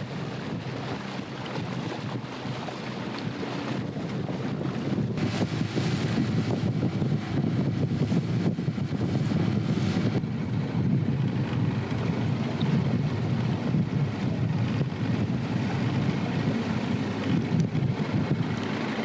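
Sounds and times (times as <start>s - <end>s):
choppy water: 0.0s - 19.0s
outboard motor running: 0.0s - 19.0s
wind buffeting microphone: 0.0s - 19.0s.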